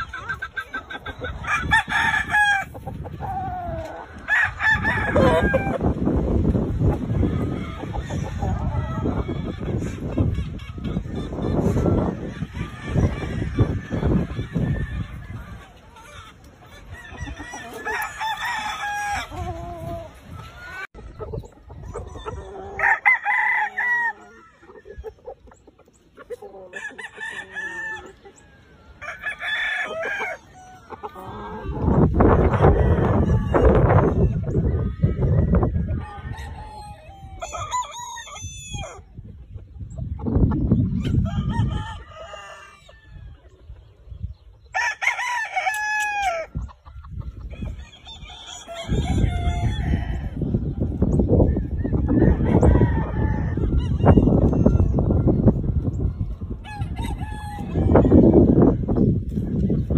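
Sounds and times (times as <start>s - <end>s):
roosters crowing: 0.0s - 39.2s, 40.3s - 59.9s.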